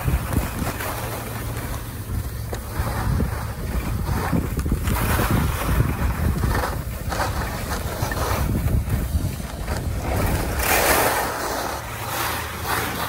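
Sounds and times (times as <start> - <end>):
wind buffeting microphone: 0.0 - 12.0
heavy rumble: 0.0 - 13.0
skis scraping over snow: 0.0 - 13.0.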